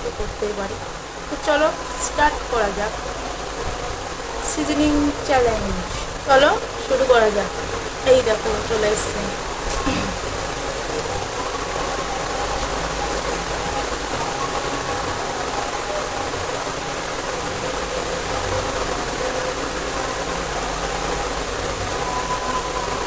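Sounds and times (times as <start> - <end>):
faint steady hum: 0.0 - 23.0
steady rushing noise: 0.0 - 23.0.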